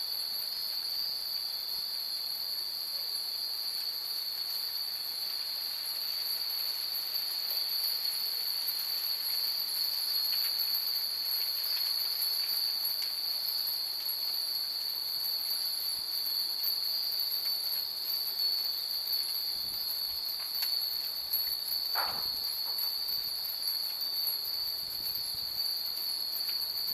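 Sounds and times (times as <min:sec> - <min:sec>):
insects chirring: 0:00.0 - 0:26.9
wind chimes tinkling: 0:00.1 - 0:26.9.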